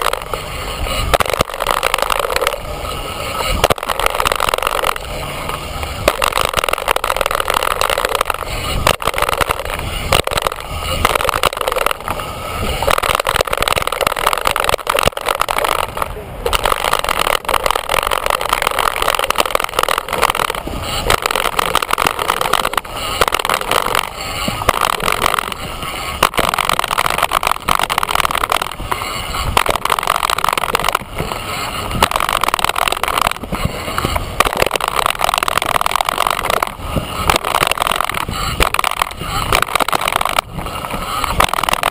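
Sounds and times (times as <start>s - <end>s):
tyres on dirt: 0.0s - 41.9s
wind rushing over microphone: 0.0s - 41.9s.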